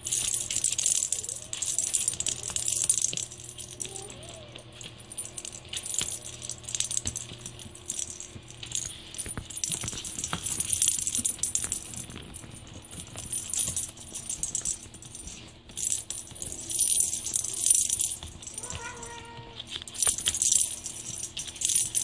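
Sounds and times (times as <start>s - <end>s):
plastic rattle-ball toy rattling: 0.0s - 22.0s.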